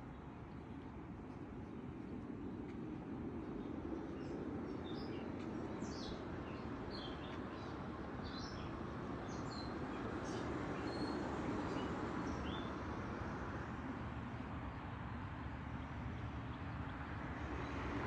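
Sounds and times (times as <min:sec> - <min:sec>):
songbirds chirping: 0:00.0 - 0:13.2, 0:14.6 - 0:18.0.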